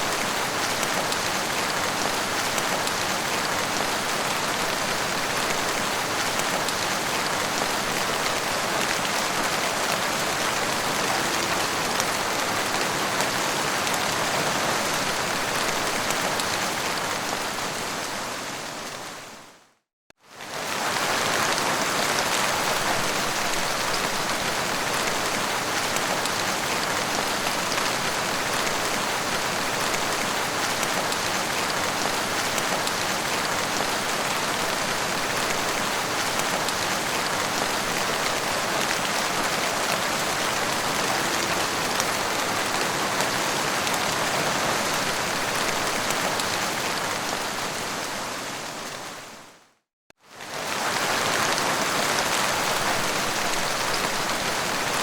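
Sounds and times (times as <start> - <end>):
heavy rain falling: 0.0 - 19.3, 20.4 - 49.4, 50.3 - 55.0.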